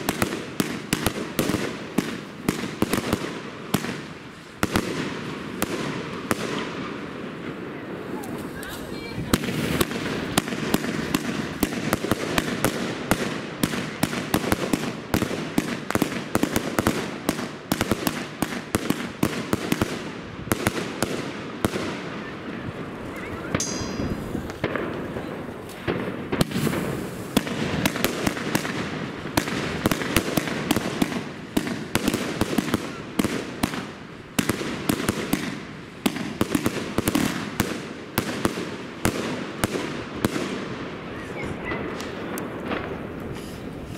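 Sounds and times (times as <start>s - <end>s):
fireworks launching and bursting: 0.0s - 43.9s.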